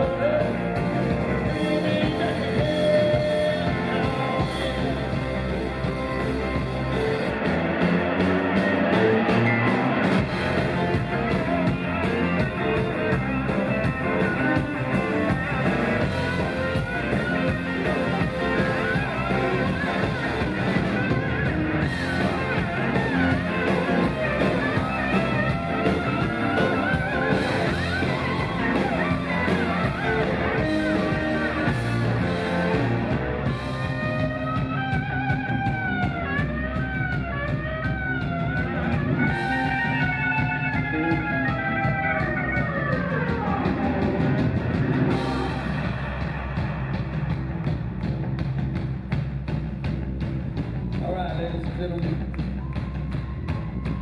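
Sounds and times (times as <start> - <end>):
lead electric guitar bending notes: 0.0 - 48.2
rock band playing live: 0.0 - 54.0.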